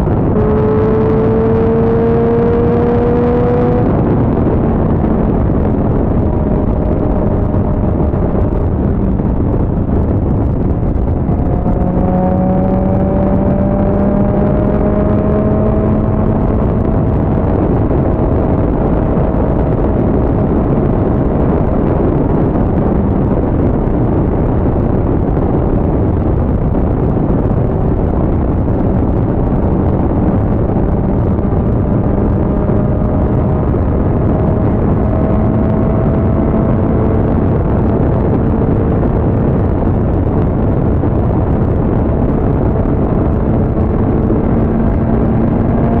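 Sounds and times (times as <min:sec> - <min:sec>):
motorcycle engine cruising: 0:00.0 - 0:46.0
wind and road rush: 0:00.0 - 0:46.0.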